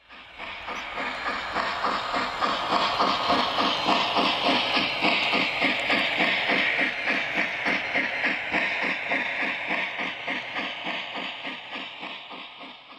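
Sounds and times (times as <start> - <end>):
steam hiss: 0.0 - 12.9
steam locomotive chuffing: 0.0 - 12.9.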